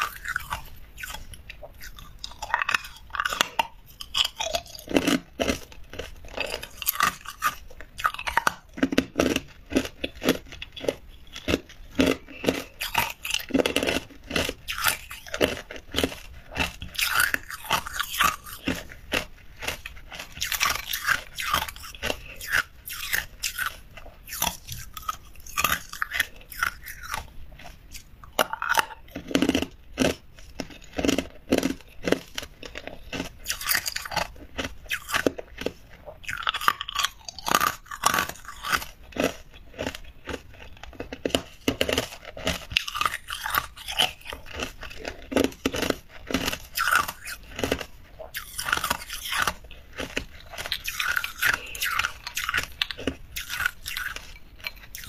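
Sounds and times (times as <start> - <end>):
person chewing ice cubes: 0.0 - 55.0.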